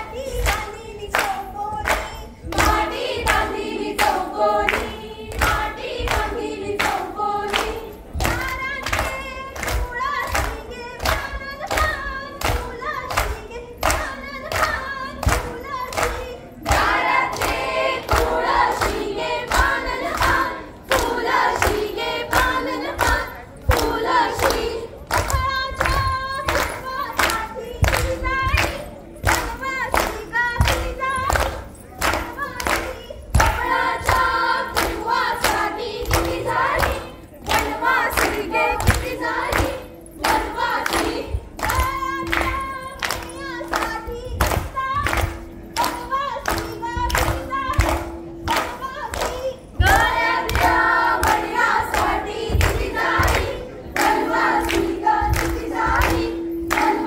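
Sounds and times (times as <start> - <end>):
hand claps: 0.0 - 57.0
women singing in chorus: 0.0 - 57.0.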